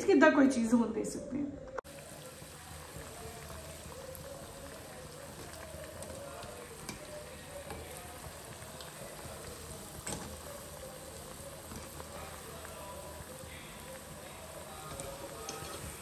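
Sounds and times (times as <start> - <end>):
food sizzling in hot oil: 1.8 - 16.0.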